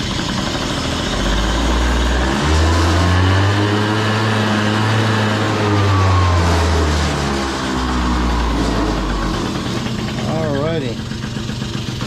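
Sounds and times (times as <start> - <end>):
scooter engine revving: 0.0 - 12.0.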